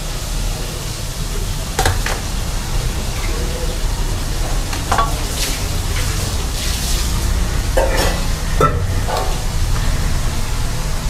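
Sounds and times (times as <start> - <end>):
low rumble and hiss: 0.0 - 11.0
stirring and frying: 0.0 - 11.0.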